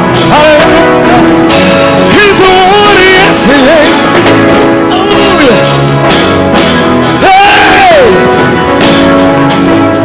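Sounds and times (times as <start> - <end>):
gospel band playing: 0.0 - 10.0.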